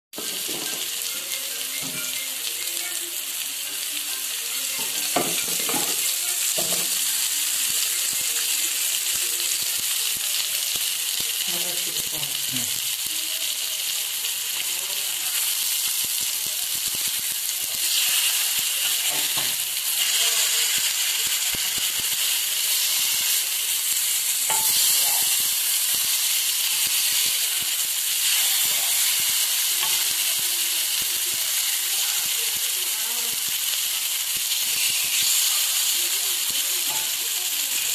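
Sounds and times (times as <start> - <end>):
fish sizzling in oil: 0.1 - 37.9.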